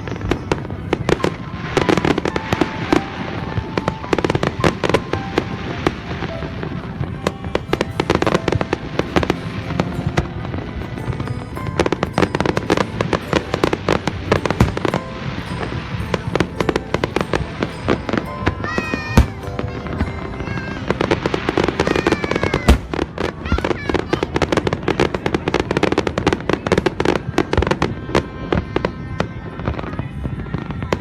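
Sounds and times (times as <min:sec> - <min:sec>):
fireworks cracking and banging: 0:00.0 - 0:31.0.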